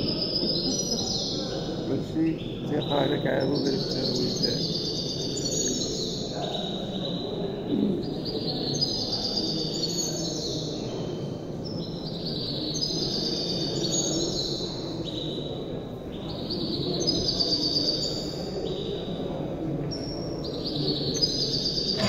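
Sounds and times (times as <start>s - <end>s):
low room murmur: 0.0s - 22.0s.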